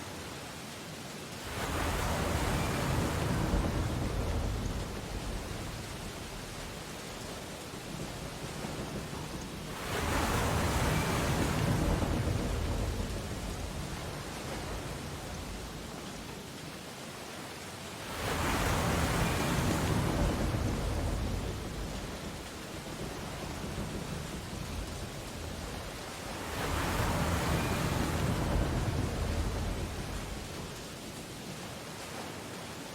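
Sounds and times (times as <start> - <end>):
ocean waves breaking: 1.3 - 32.9.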